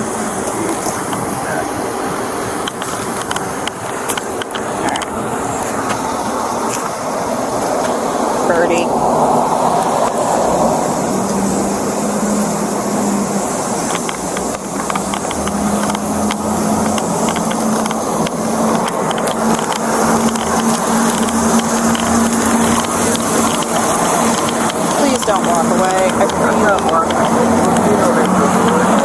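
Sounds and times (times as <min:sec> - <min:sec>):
road traffic noise: 0:00.0 - 0:29.0
vehicle engine humming: 0:00.0 - 0:29.0.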